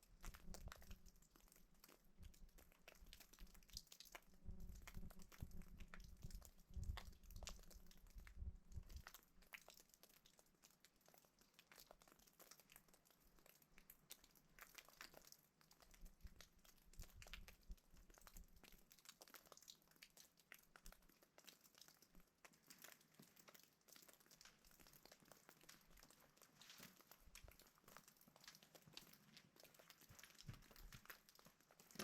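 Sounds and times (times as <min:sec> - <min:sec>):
faint crackling and ticking: 0:00.0 - 0:32.0.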